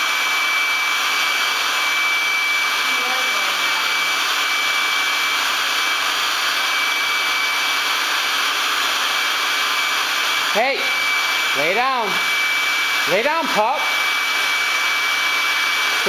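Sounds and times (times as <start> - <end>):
electric air pump running: 0.0 - 16.0.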